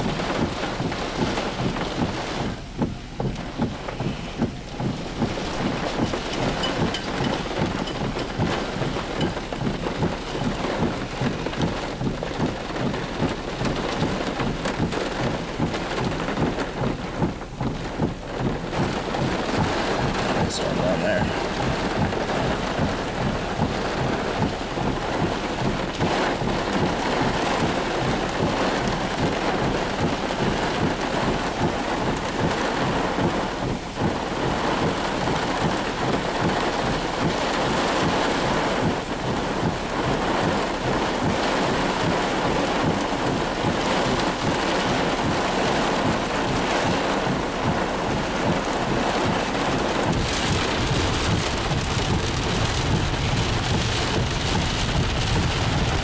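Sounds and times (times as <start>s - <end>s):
heavy rain downpour: 0.0s - 56.0s.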